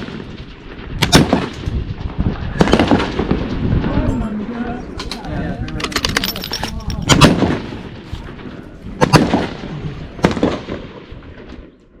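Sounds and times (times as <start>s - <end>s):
rifle shots with echo: 0.0s - 3.9s, 5.8s - 11.9s.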